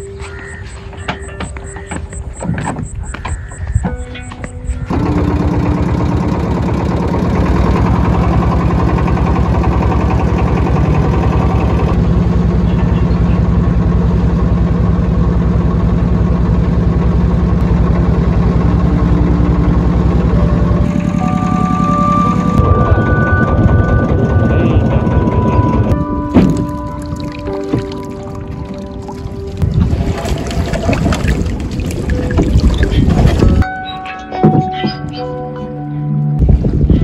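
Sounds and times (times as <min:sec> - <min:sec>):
boat engine running: 0:00.0 - 0:35.3.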